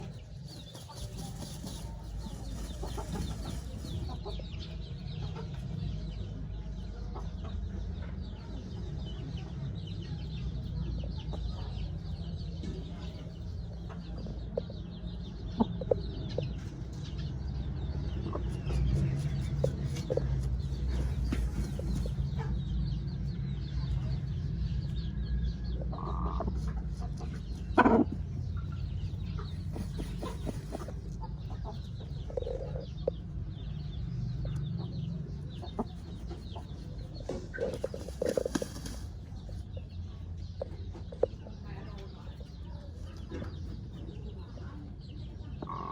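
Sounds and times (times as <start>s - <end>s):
chickens clucking: 0.0s - 8.7s, 10.3s - 45.9s.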